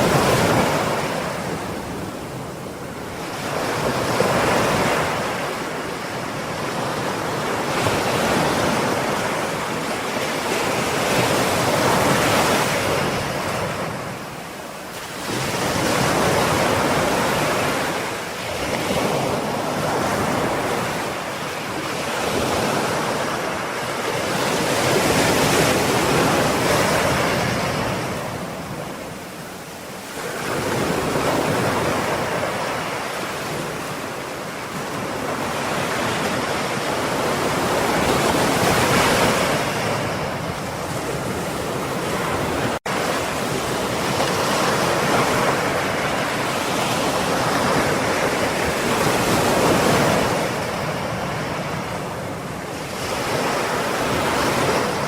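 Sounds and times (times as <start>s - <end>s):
ocean waves breaking on shore: 0.0s - 55.0s
wind noise: 0.0s - 55.0s.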